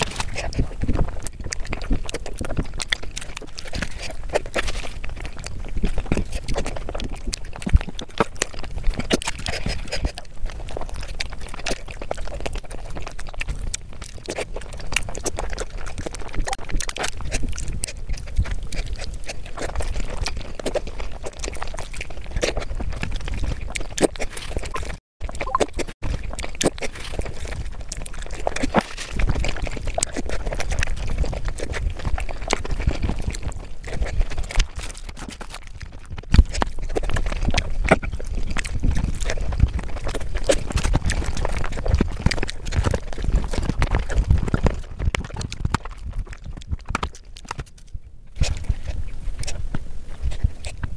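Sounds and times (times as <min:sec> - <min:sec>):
hands squishing wet rice: 0:00.0 - 0:47.8
wet chewing and lip-smacking: 0:00.0 - 0:50.9.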